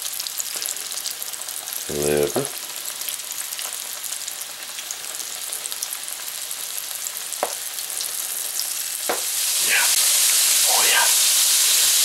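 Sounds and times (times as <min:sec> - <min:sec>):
meat frying with crackling sizzle: 0:00.0 - 0:12.0.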